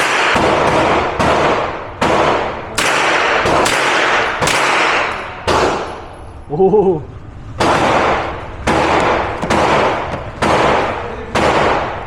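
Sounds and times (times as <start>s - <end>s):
echoing gunshots: 0.0s - 6.2s, 7.6s - 12.0s.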